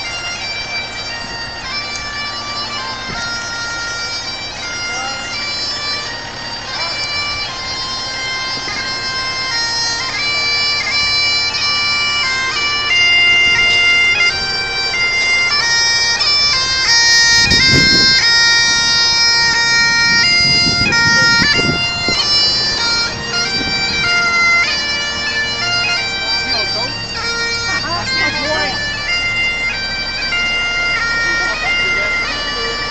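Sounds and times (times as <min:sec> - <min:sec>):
bagpipes playing: 0:00.0 - 0:32.9.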